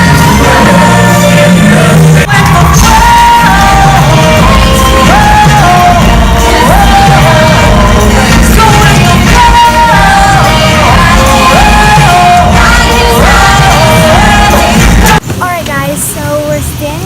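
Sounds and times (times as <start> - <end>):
loud band backing: 0.0 - 15.2
singers holding long notes: 0.0 - 15.2.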